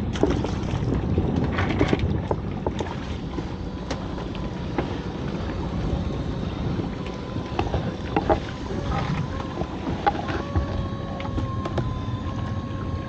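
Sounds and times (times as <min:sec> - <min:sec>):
water splashing against boat hull: 0:00.0 - 0:13.0
wind buffeting microphone: 0:00.0 - 0:13.0.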